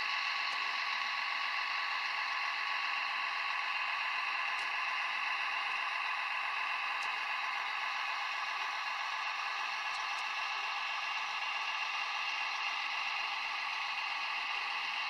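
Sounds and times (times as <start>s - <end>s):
thin diesel engine sound from speaker: 0.0s - 15.0s.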